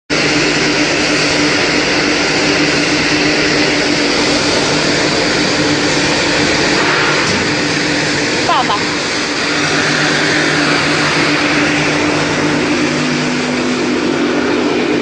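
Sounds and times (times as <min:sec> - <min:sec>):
loud grinding noise: 0:00.1 - 0:15.0
motor hum: 0:00.1 - 0:15.0.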